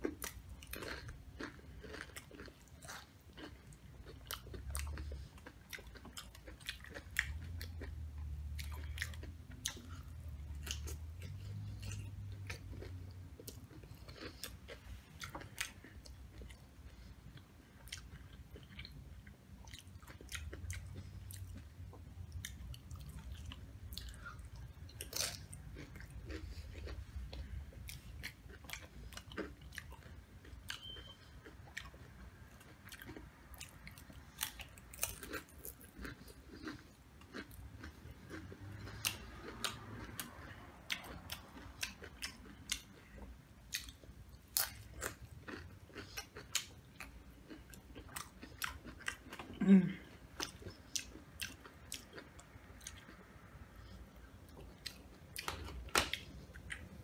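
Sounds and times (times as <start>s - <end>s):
chewing crunchy chips: 0.0s - 57.0s.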